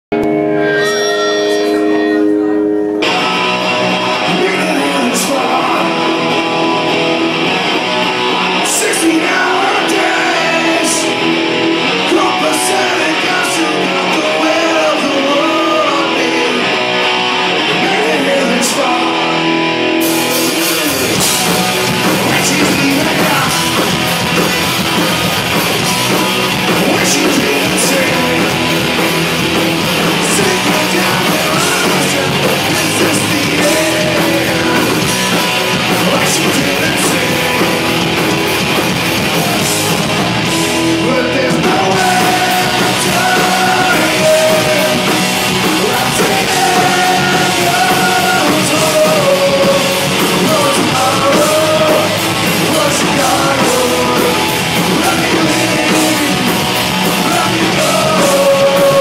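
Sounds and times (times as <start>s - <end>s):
punk rock band playing live: 0.1s - 59.0s
person singing: 0.6s - 7.2s, 8.6s - 19.6s, 20.3s - 24.6s, 25.8s - 29.3s, 29.9s - 38.5s, 40.9s - 59.0s.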